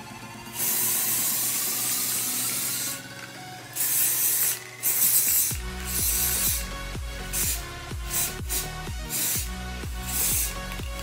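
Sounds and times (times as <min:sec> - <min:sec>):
hairspray can hissing: 0:00.6 - 0:11.0.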